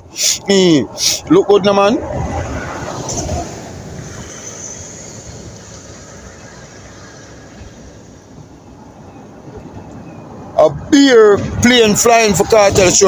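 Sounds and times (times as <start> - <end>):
jet flying over: 0.0 - 13.0.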